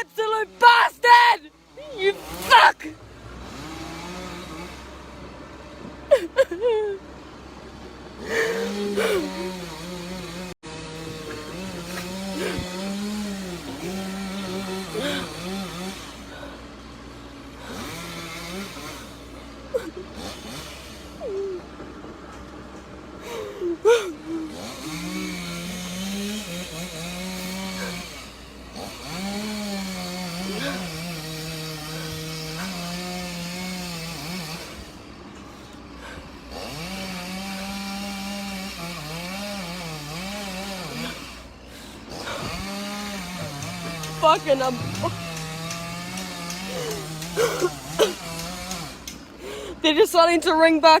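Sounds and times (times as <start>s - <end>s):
chainsaw running: 0.0s - 51.0s.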